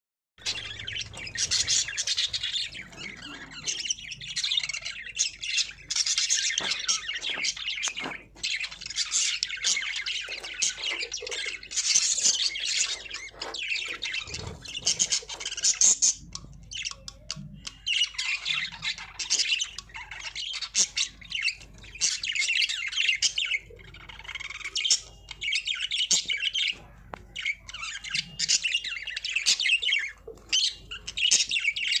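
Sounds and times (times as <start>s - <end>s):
budgerigars chirping: 0.4s - 32.0s.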